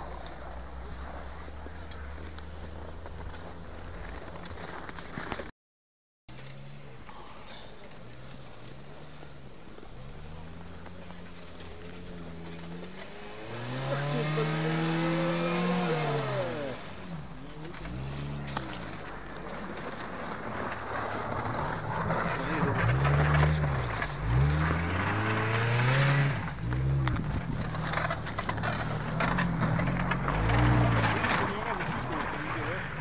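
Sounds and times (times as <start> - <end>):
car engine revving: 6.3 - 33.0.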